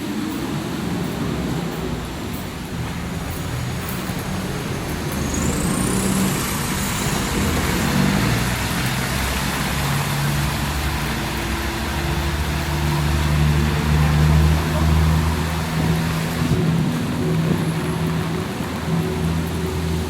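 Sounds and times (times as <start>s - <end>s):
heavy rain: 0.0s - 20.0s
vehicle engines humming: 0.0s - 20.0s
wet road noise: 0.0s - 20.0s.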